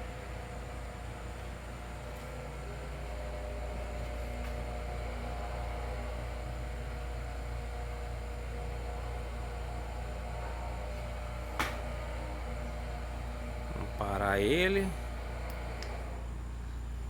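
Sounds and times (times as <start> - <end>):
electric winch motor humming: 0.0 - 17.0.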